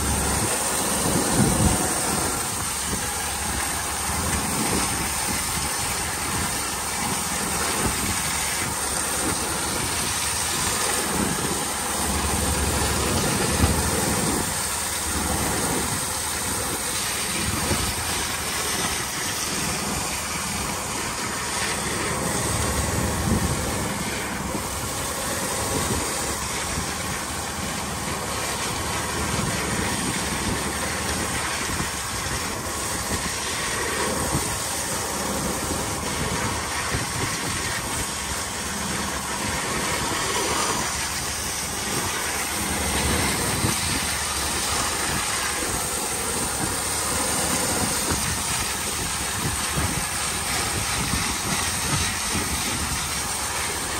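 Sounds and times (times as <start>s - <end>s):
boat engine pulsing rumble: 0.0s - 53.9s.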